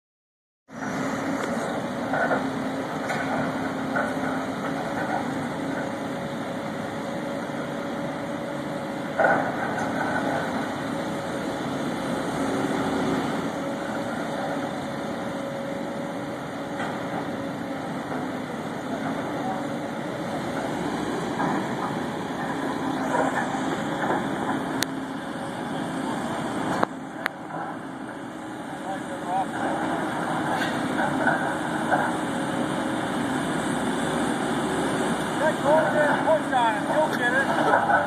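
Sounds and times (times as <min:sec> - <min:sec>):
diesel engine running: 0:00.7 - 0:38.0.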